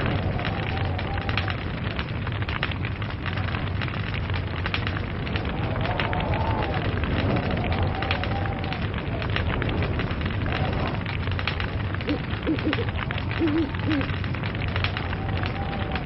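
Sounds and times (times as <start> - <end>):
fire crackling and popping: 0.0 - 16.0
low rumble: 0.0 - 16.0.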